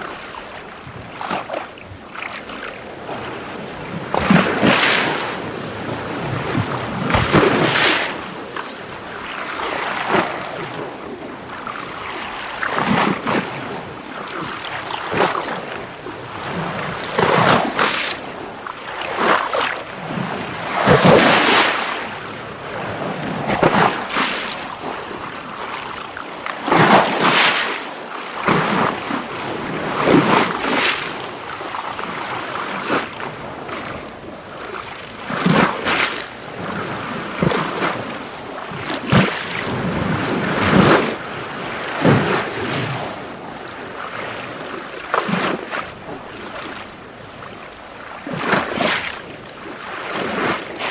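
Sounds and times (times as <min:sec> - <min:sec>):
water splashing and lapping: 0:00.0 - 0:50.9.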